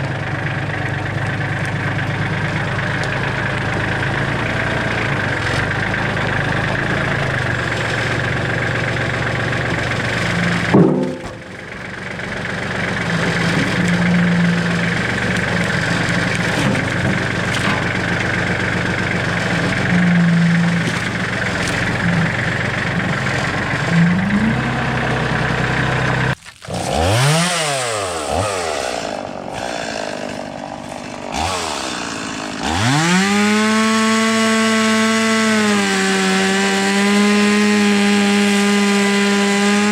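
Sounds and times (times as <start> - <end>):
small gas engine running: 0.0 - 39.9
chainsaw revving: 2.0 - 39.9.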